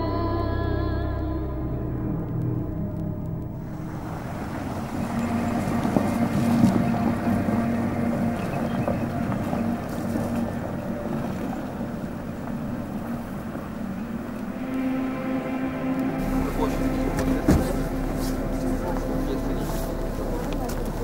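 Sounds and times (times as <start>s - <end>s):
car engines idling: 0.0s - 21.0s
wind on microphone: 3.6s - 21.0s.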